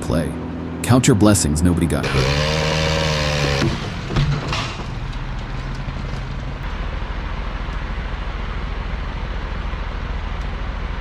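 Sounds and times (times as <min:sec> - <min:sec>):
engine pulsing hum: 0:00.0 - 0:11.0.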